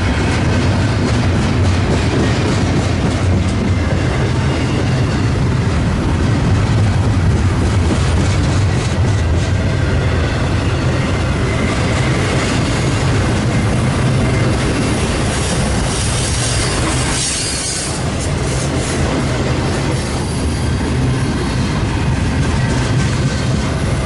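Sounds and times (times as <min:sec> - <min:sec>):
train cars rumbling over rails: 0:00.0 - 0:24.0.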